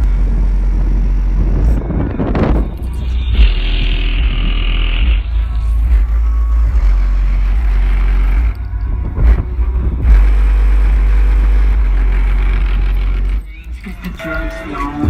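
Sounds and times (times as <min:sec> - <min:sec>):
heavy car engine rumble: 0:00.0 - 0:15.0.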